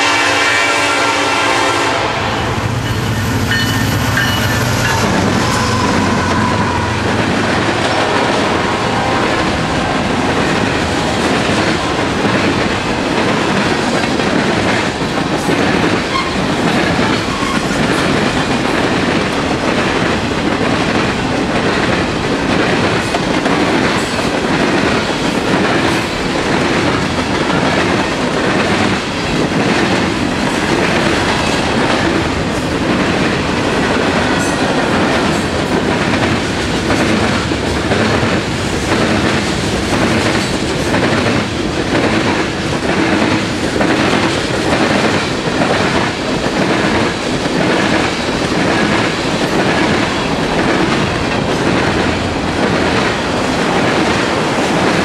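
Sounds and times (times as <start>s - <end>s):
diesel locomotives rumbling: 0.0s - 55.0s
train wheels clickety-clack: 0.0s - 55.0s.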